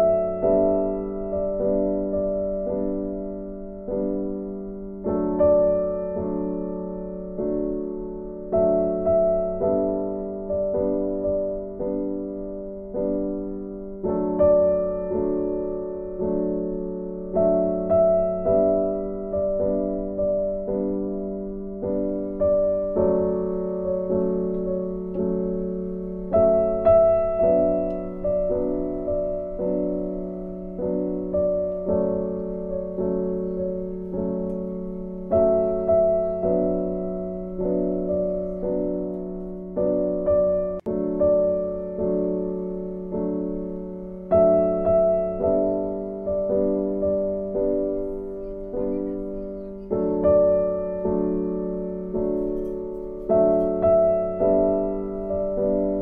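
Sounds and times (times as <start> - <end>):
slow gentle piano music: 0.0 - 56.0.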